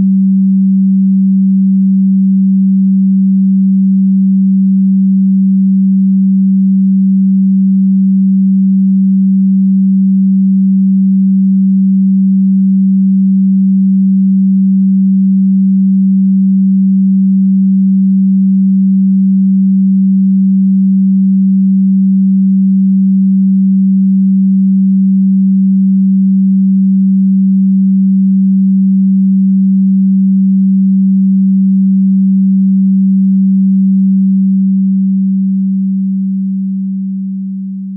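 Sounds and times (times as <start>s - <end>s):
low electronic sine tone: 0.0s - 37.9s.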